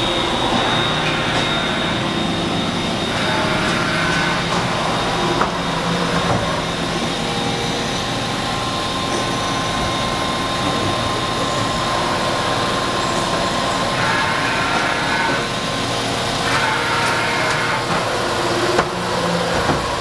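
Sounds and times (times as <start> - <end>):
machine hum and whine: 0.0 - 20.0.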